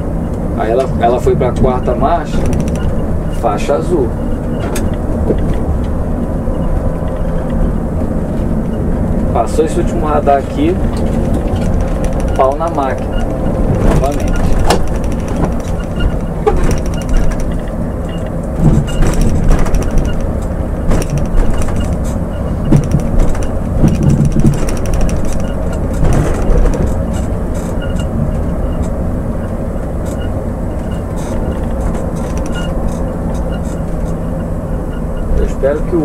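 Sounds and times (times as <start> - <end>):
diesel engine pulling: 0.0 - 36.0
road noise: 0.0 - 36.0
clicks and rattles in cab: 0.3 - 36.0.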